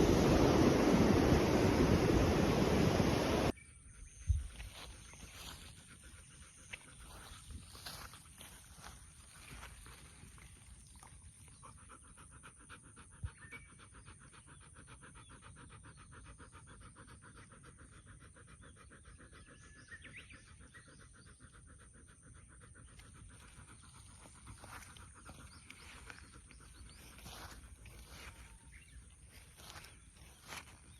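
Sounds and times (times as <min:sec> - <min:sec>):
dog panting: 0:05.2 - 0:10.4, 0:11.0 - 0:30.9.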